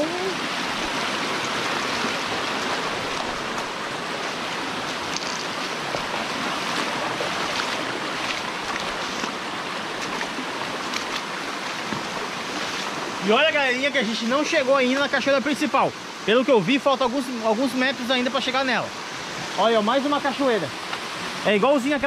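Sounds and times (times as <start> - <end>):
stream running over rocks: 0.0 - 22.0
waterfall rushing: 0.0 - 22.0.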